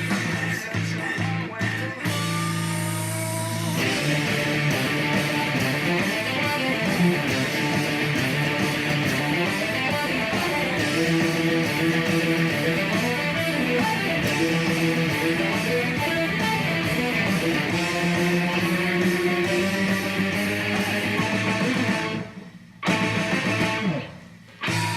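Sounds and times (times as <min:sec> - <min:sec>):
electric guitar rock solo: 0:00.0 - 0:24.9
rock band backing: 0:00.0 - 0:24.9.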